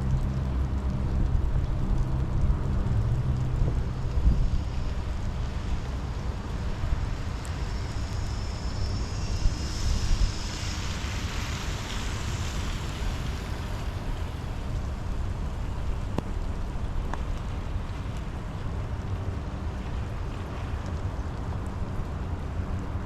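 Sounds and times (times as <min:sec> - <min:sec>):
low rumble: 0:00.0 - 0:23.0
steady rain falling: 0:00.0 - 0:23.0.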